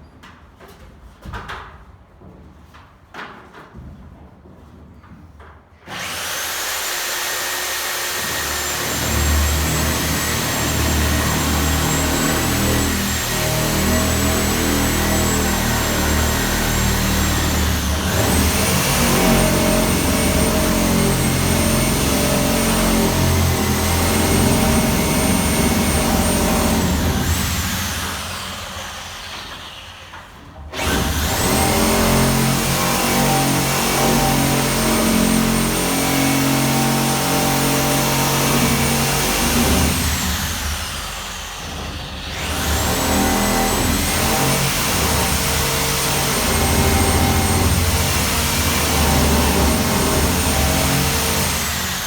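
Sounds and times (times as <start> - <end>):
power tool motor whining: 5.9 - 30.0, 30.8 - 52.0.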